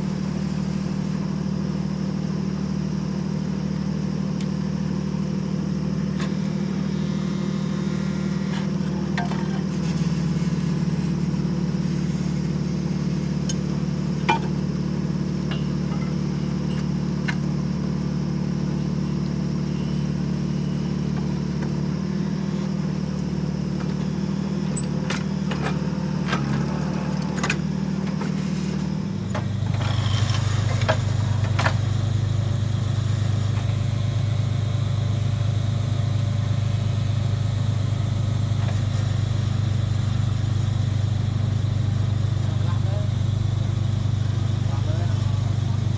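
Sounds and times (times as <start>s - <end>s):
diesel engine running under load: 0.0s - 45.9s.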